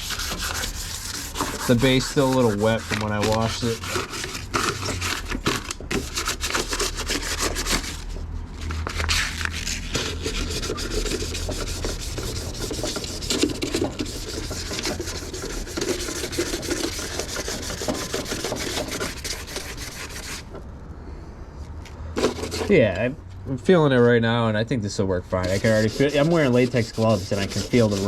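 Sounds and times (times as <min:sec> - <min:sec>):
sandpaper scuffing paint: 0:00.0 - 0:08.1, 0:08.7 - 0:20.5, 0:25.3 - 0:28.0.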